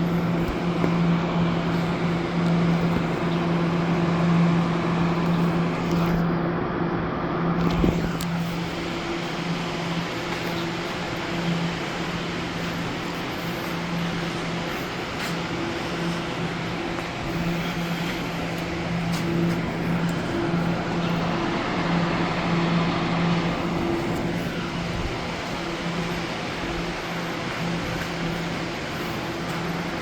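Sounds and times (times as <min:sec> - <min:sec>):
electric train rumble: 0:00.0 - 0:30.0
low electrical hum: 0:00.0 - 0:30.0.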